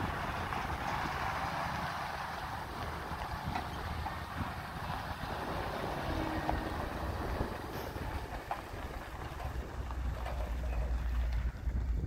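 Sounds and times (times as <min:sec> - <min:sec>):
truck engine running low: 0:00.0 - 0:12.0
tyres on gravel: 0:00.0 - 0:12.0.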